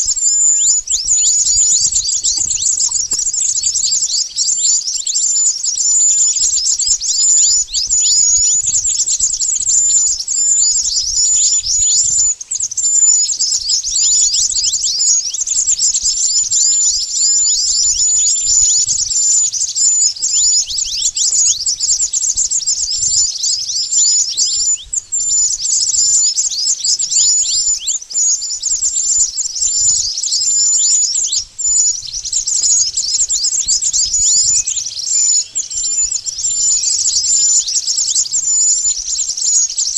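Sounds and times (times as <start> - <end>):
high-pitched bird chips: 0.0 - 21.9, 25.4 - 39.9.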